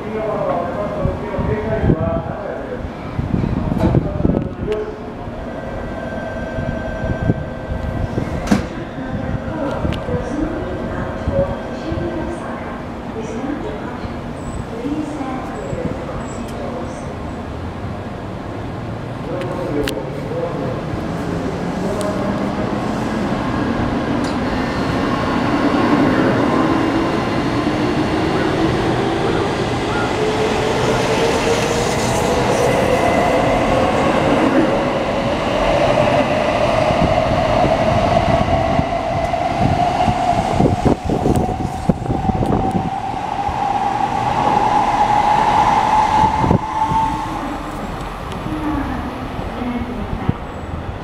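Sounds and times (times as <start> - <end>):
rumble of wheels on rail: 0.0 - 51.0.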